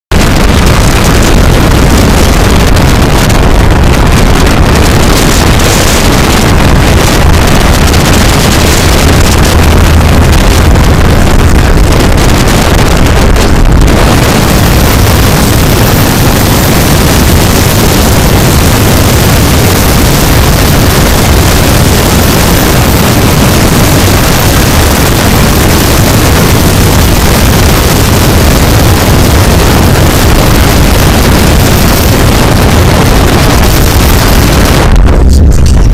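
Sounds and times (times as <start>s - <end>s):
wind and road noise: 0.0s - 35.9s
low engine rumble: 0.1s - 35.9s.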